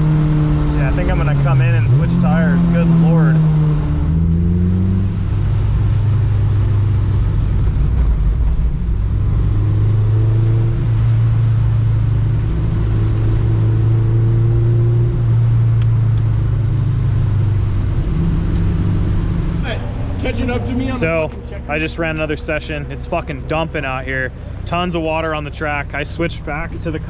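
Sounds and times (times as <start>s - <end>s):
car engine droning: 0.0s - 27.0s.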